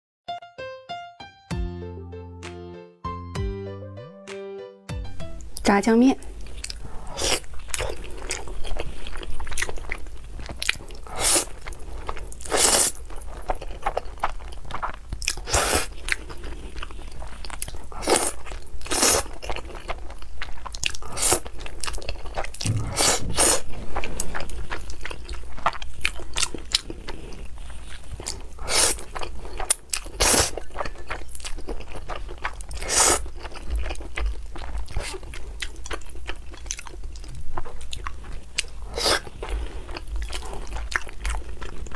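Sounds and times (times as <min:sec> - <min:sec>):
person chewing and slurping noodles: 0:06.3 - 0:41.9.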